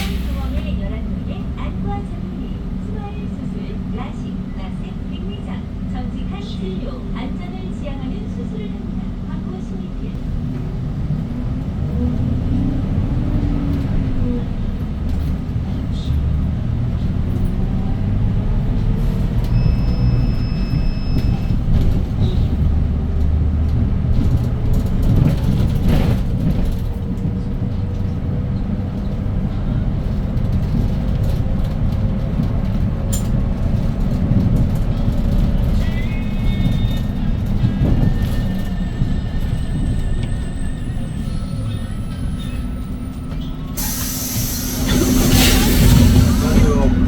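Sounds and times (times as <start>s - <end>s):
bus engine and road rumble: 0.0s - 47.0s.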